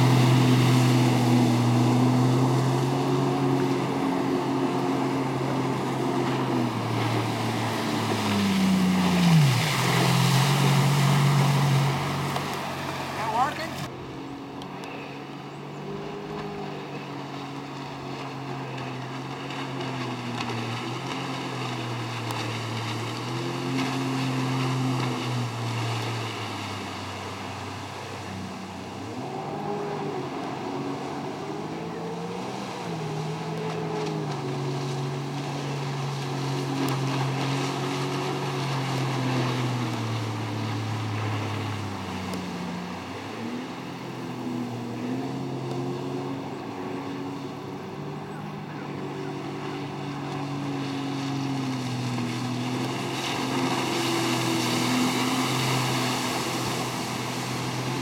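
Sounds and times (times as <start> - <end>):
jet ski engine running: 0.0 - 58.0.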